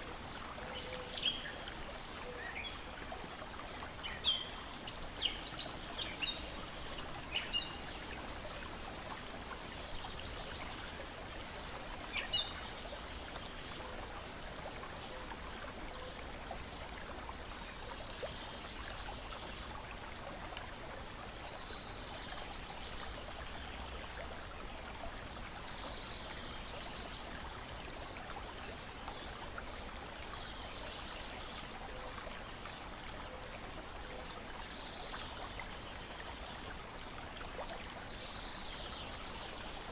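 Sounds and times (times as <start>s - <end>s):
water lapping and trickling: 0.0s - 39.9s.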